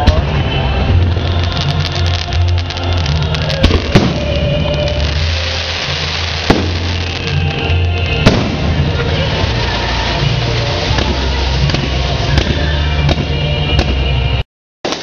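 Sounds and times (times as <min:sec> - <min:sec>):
fireworks bangs: 0:00.0 - 0:15.0
music: 0:00.0 - 0:15.0.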